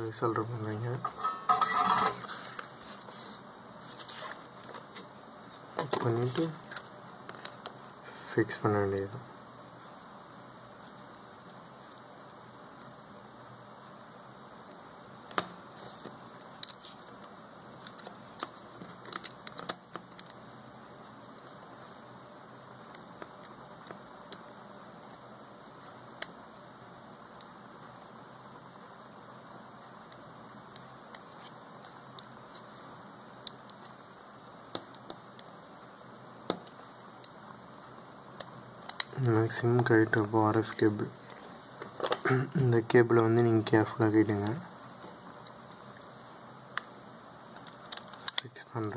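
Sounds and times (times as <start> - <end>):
steady faint hiss: 0.0 - 48.9.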